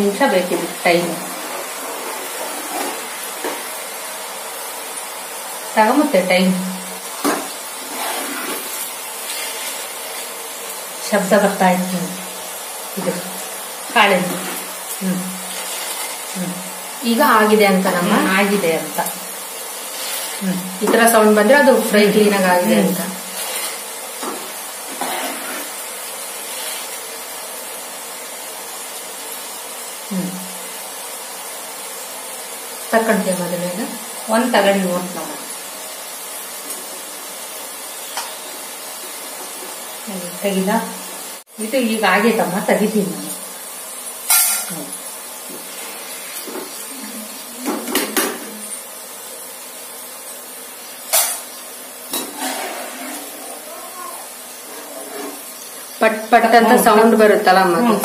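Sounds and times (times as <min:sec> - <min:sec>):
beans sizzling in hot oil: 0:00.0 - 0:58.0.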